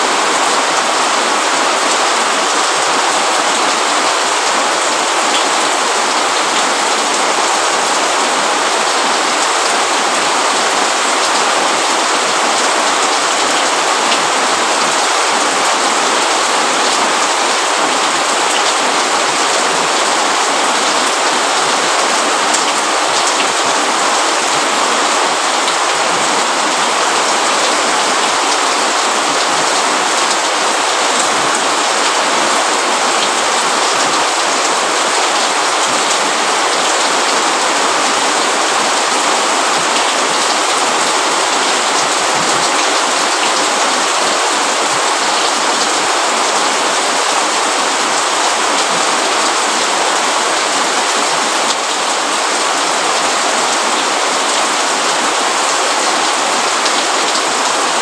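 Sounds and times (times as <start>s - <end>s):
rain on a hard surface: 0.0s - 58.0s.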